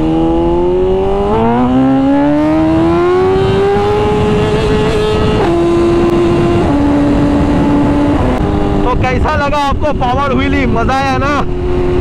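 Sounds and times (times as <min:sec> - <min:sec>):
motorcycle engine accelerating: 0:00.0 - 0:12.0
wind rush: 0:00.0 - 0:12.0.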